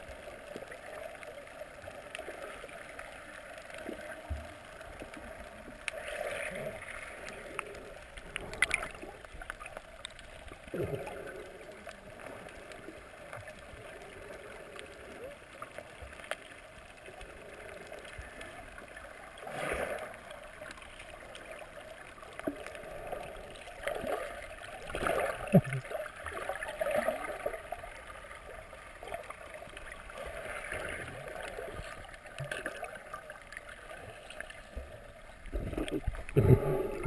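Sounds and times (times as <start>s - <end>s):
bubbles and splashing: 0.0s - 37.0s
underwater water rushing and gurgling: 0.0s - 37.0s.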